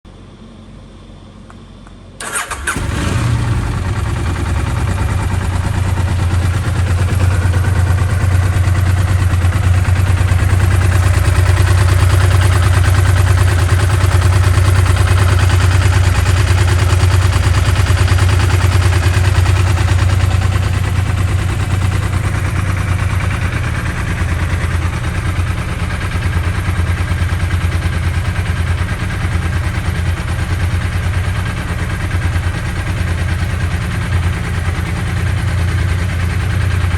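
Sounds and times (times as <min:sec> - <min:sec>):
motorcycle engine starting and idling: 0:02.2 - 0:36.9.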